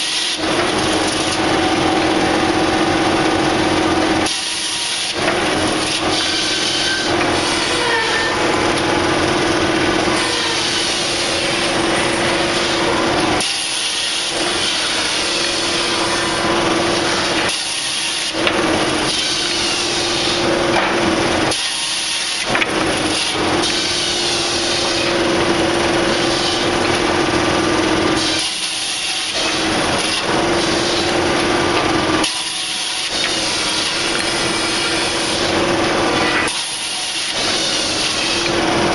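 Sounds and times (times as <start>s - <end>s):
machine hum: 0.0s - 38.9s
saw rasping through wood: 0.0s - 38.9s.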